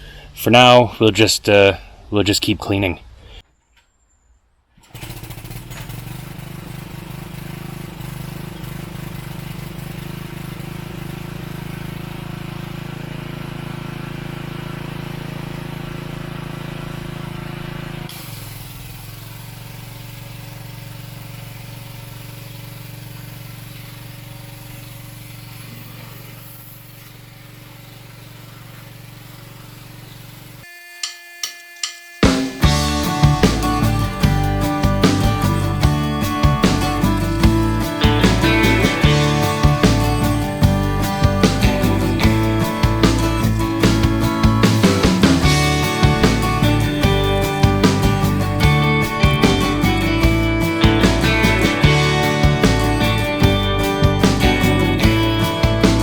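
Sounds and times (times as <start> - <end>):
engine running: 4.8 - 30.7, 32.2 - 56.0.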